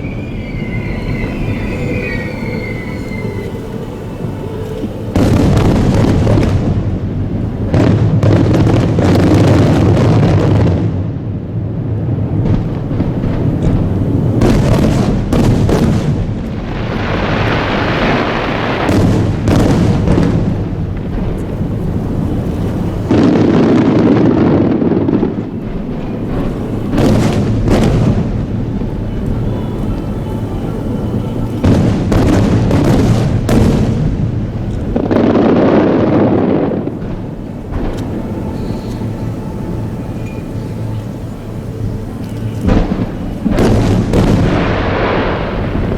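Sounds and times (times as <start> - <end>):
firework booms: 0.0 - 45.9
firework hissing crackle: 0.0 - 45.9
sharp firework reports: 0.0 - 45.9.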